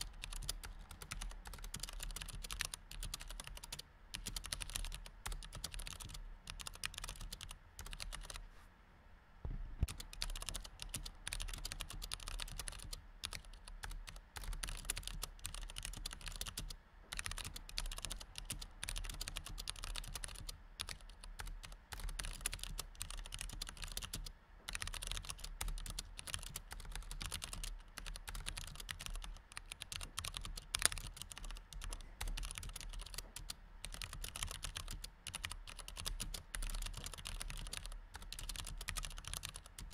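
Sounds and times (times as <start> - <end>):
keyboard typing: 0.0 - 8.4, 9.8 - 39.9.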